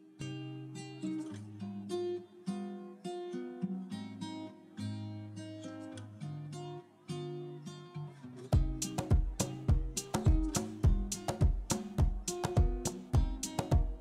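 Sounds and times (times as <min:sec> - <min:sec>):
acoustic guitar picked melody: 0:00.0 - 0:14.0.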